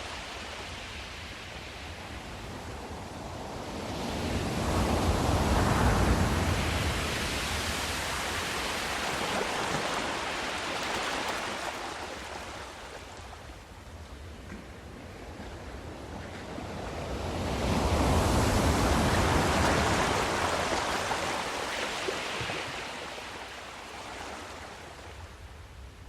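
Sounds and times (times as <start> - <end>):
ocean waves on a shore: 0.0 - 26.0.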